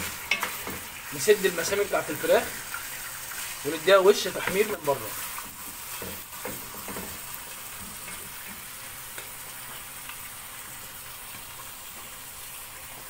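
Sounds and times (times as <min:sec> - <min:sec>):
chicken sizzling in butter: 0:00.0 - 0:13.0.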